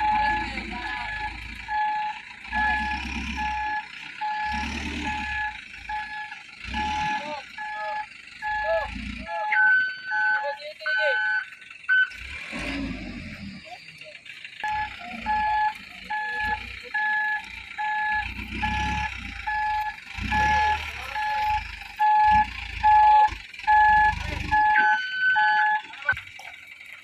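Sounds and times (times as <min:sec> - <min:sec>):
truck alarm beeping: 0:00.0 - 0:27.0
truck engine surging: 0:00.0 - 0:27.0.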